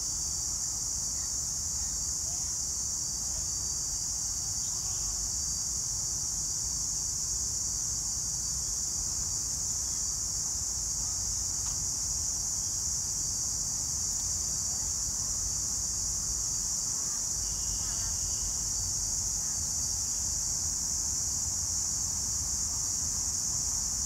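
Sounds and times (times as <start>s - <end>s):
cicadas chorus: 0.0s - 24.0s.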